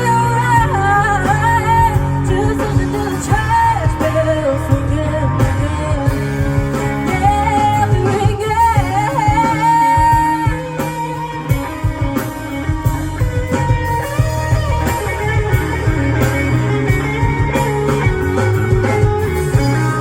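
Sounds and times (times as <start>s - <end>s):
bass: 0.0s - 20.0s
electric guitar: 0.0s - 20.0s
steady drum beat: 0.0s - 20.0s.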